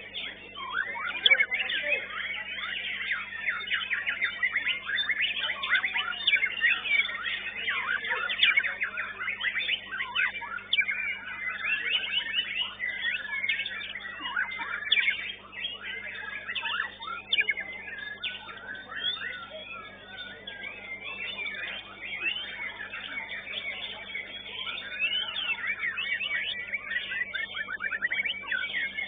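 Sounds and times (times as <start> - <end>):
many songbirds singing: 0.0 - 29.0.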